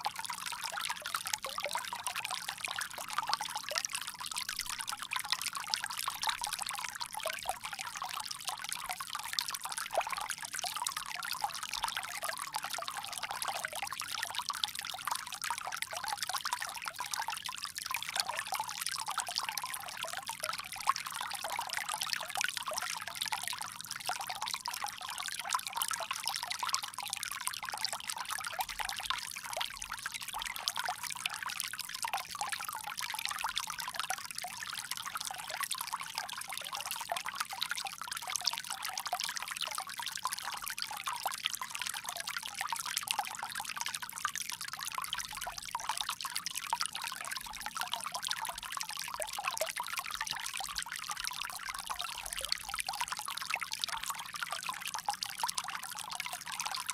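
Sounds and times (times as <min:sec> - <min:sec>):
water trickling from spout: 0:00.0 - 0:56.9.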